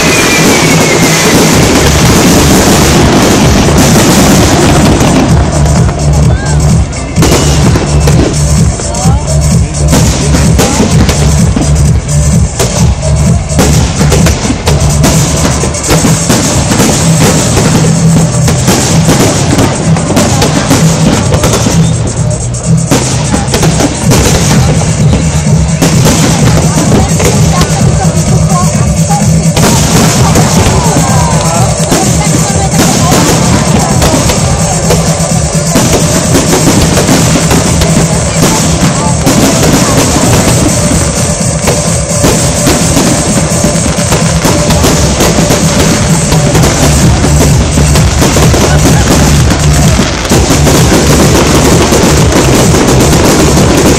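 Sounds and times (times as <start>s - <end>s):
fireworks bursting: 0.0s - 53.9s
loud music with heavy drum beat: 0.0s - 53.9s.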